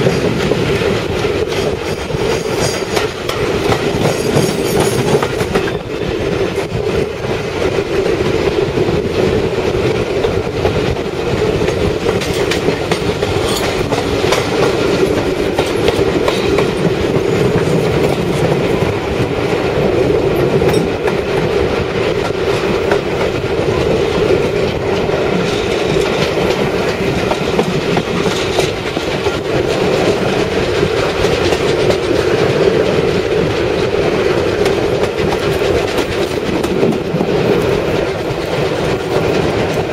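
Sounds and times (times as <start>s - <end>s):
train rumble: 0.0s - 39.9s
train wheels clicking on rail joints: 0.0s - 39.9s.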